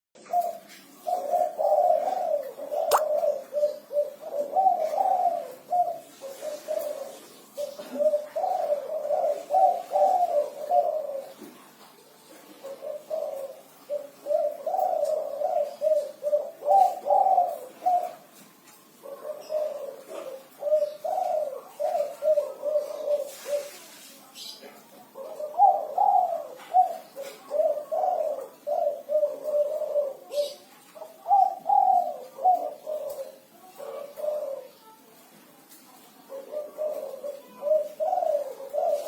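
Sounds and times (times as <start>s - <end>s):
dove cooing: 0.2s - 39.0s.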